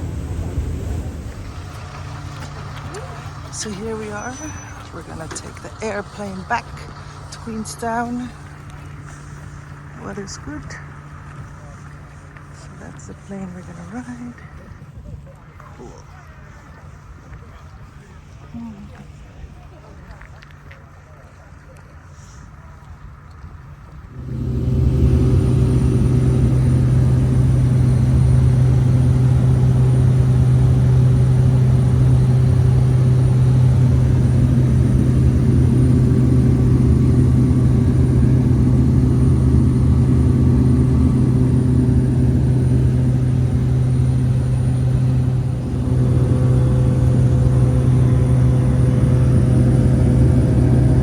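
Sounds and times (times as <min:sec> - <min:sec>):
propeller aircraft engine drone: 0:00.0 - 0:51.0.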